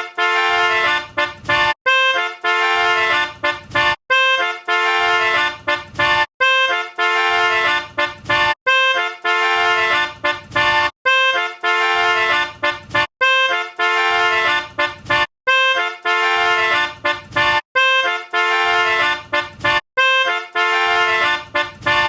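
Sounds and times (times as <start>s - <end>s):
looping horn-like melodic phrase: 0.0s - 22.0s.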